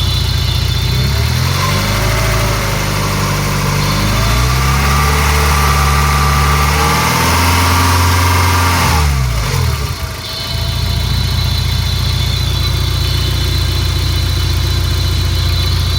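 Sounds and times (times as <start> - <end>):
car engine revving and idling: 0.0 - 15.9
high thin engine whine: 0.0 - 15.9.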